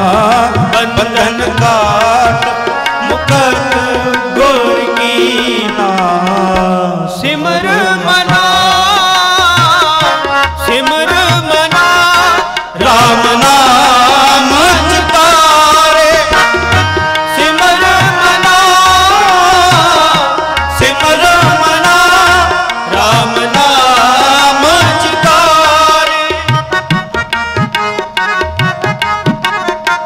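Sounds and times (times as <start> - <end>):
harmonium drone: 0.0 - 30.0
man singing: 0.0 - 30.0
tabla drumming: 0.0 - 30.0.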